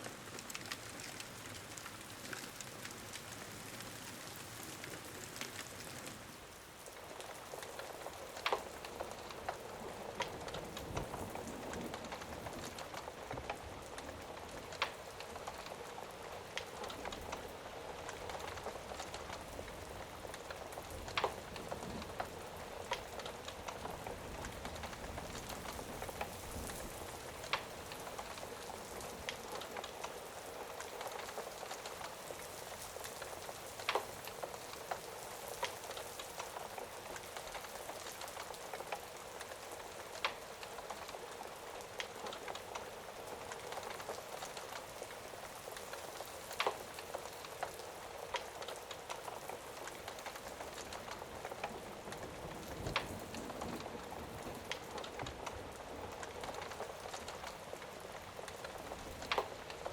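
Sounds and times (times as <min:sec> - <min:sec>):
crackling fire pops: 0:00.0 - 0:59.9
steady rain: 0:00.0 - 0:59.9.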